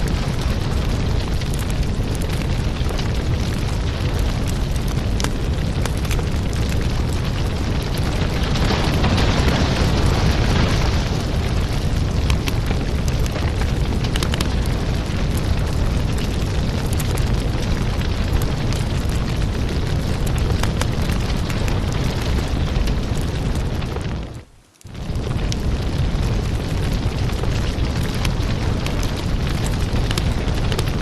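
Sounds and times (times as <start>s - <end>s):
firewood crackling and popping: 0.0s - 31.0s.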